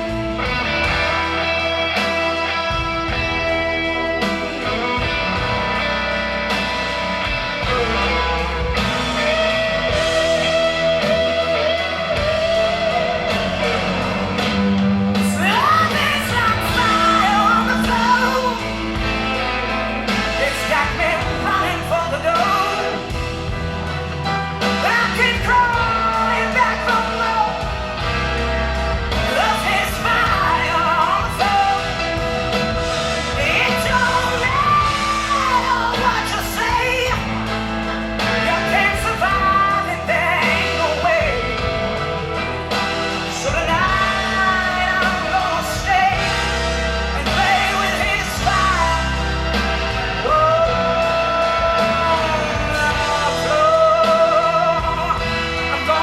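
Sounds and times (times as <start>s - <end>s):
blues rock band playing: 0.0s - 56.0s.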